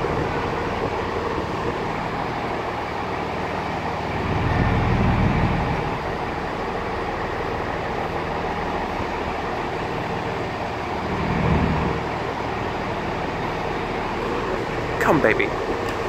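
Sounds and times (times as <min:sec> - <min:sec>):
train engines idling: 0:00.0 - 0:16.0.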